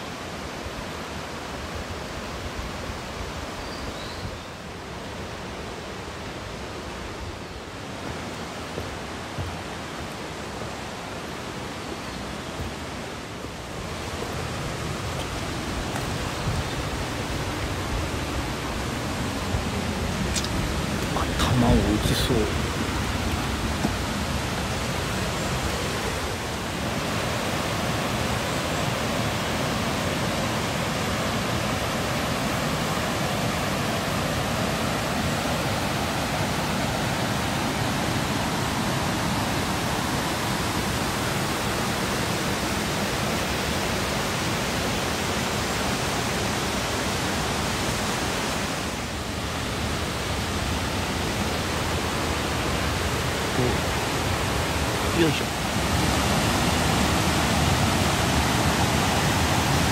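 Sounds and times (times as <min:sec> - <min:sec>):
mountain stream rushing over rocks: 0:00.0 - 0:59.9.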